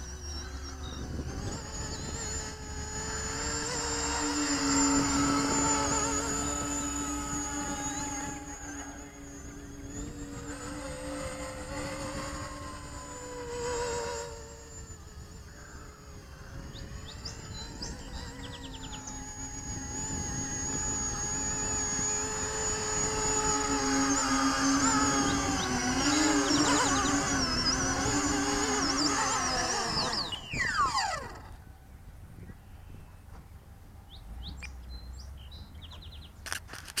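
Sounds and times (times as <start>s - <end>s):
rc plane motors whining: 0.0s - 37.0s.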